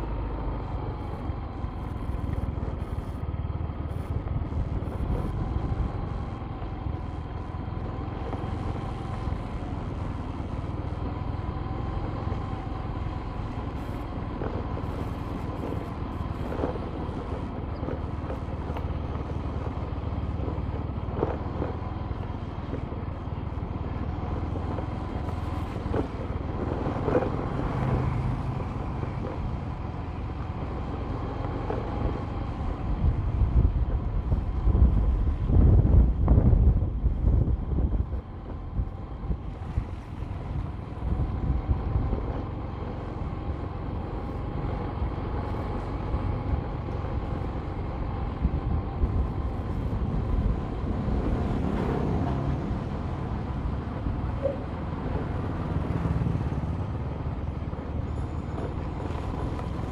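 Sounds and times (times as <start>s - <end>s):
tyre rumble on concrete road: 0.0s - 59.9s
vehicle engine running: 0.0s - 59.9s.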